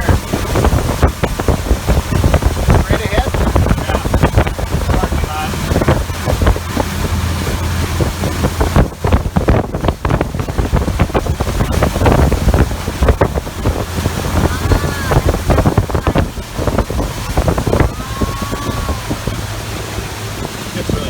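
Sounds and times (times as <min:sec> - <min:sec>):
boat engine drone: 0:00.0 - 0:21.0
water rushing and slapping: 0:00.0 - 0:21.0
wind buffeting microphone: 0:00.0 - 0:21.0.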